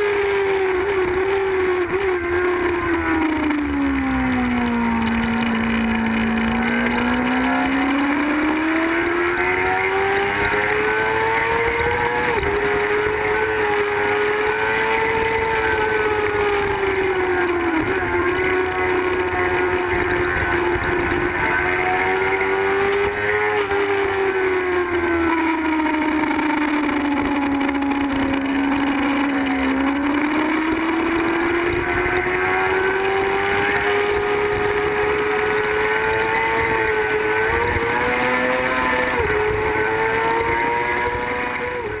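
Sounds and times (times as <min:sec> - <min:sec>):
motorcycle engine at speed: 0:00.0 - 0:42.0.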